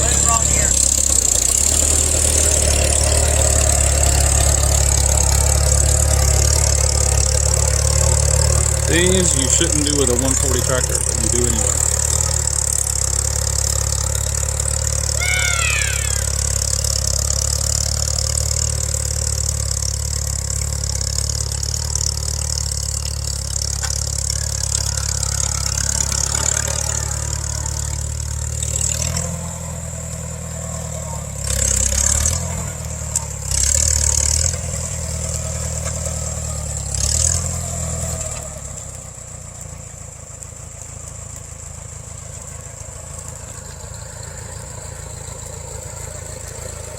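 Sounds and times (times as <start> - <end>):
tractor engine running and revving: 0.0 - 46.9.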